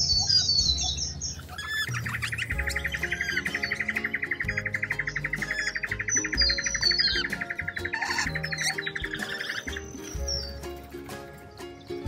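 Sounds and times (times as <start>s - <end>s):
bird chirps and trill: 0.0s - 12.0s
soft background music: 0.0s - 12.0s.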